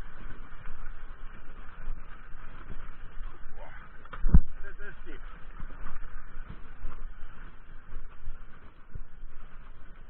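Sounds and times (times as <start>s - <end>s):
bike tyres rumbling on ground: 0.0s - 10.0s
wind buffeting microphone: 0.0s - 10.0s.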